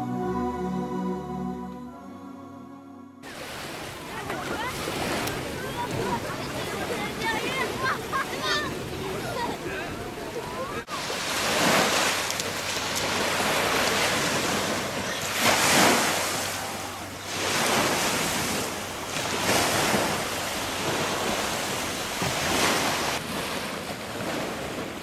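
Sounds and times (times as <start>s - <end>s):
waves washing up a sandy beach: 3.3s - 25.0s.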